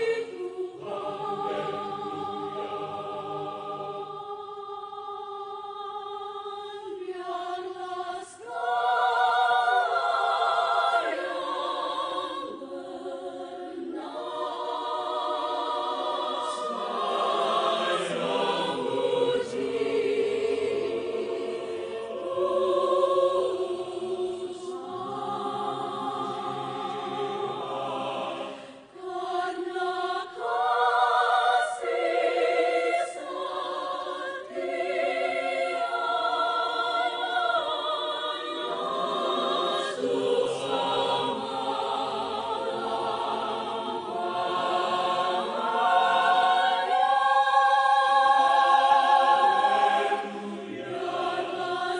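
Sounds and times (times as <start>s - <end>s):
choir singing sustained notes: 0.0s - 51.9s.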